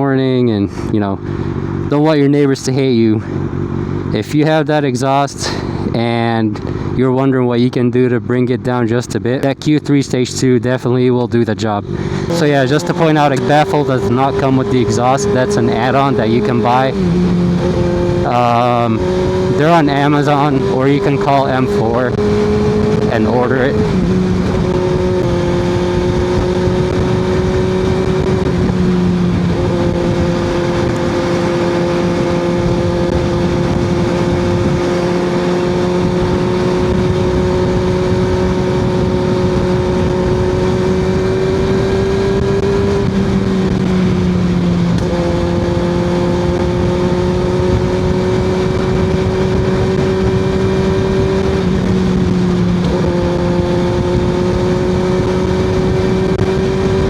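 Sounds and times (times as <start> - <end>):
motorcycle engine cruising: 0.0 - 7.0, 11.8 - 57.0.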